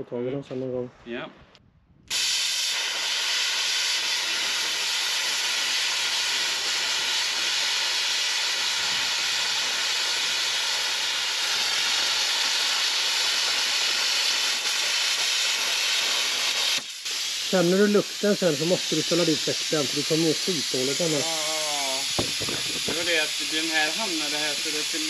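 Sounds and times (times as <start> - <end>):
plasma cutter arc hissing: 2.1 - 25.0.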